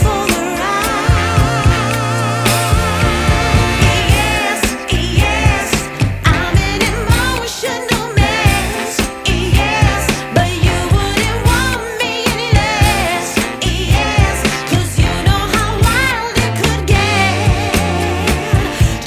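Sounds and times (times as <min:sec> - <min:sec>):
drum and bass beat: 0:00.0 - 0:19.0
woman singing: 0:00.0 - 0:19.0.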